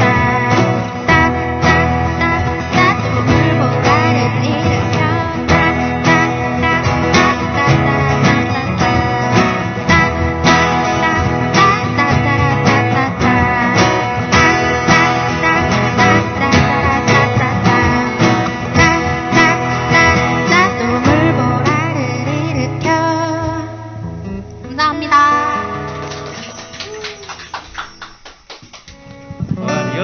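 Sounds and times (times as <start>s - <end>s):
acoustic guitar strumming: 0.0s - 28.3s, 28.9s - 30.0s.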